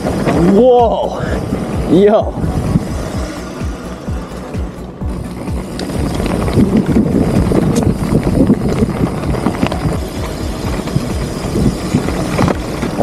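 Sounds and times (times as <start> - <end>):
mountain bike rattling on dirt: 0.0 - 13.0
wind rumbling on microphone: 0.0 - 13.0.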